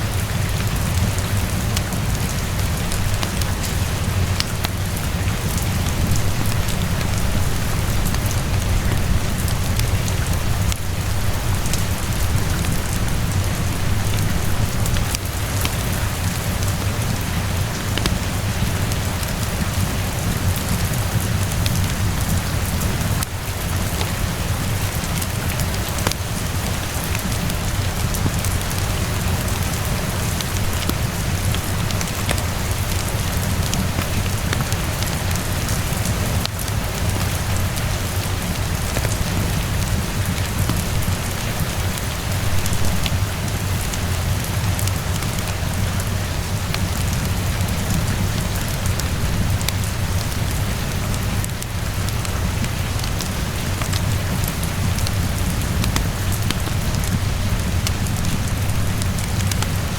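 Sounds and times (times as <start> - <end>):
heavy rainfall: 0.0 - 59.9
wood fire crackling: 0.2 - 59.9.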